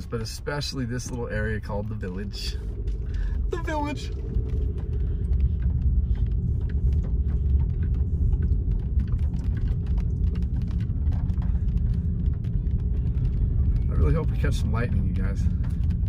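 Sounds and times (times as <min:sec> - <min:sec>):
car engine and tyres on wet road: 0:00.0 - 0:16.0
raindrops ticking on windshield: 0:00.0 - 0:16.0.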